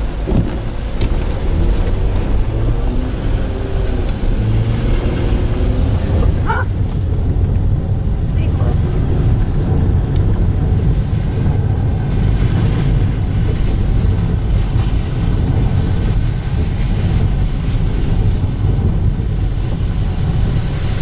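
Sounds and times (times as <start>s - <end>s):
road and wind noise in car: 0.0s - 21.0s.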